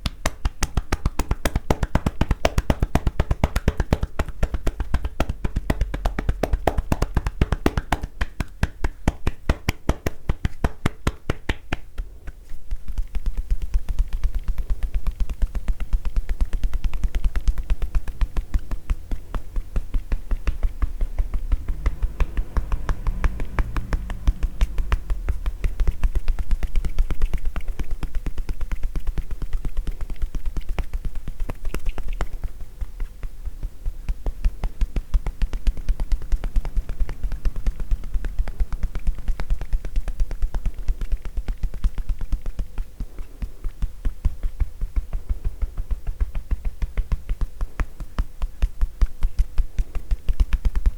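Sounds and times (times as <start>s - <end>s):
hands tapping on back: 0.0s - 50.9s.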